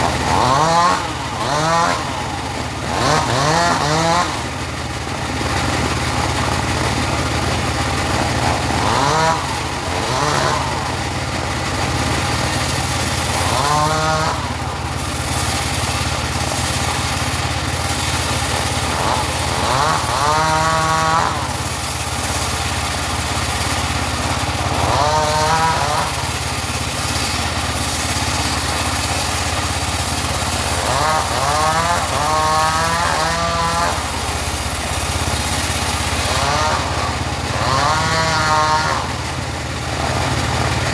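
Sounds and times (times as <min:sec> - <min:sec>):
portable sawmill sawing wood: 0:00.0 - 0:40.9.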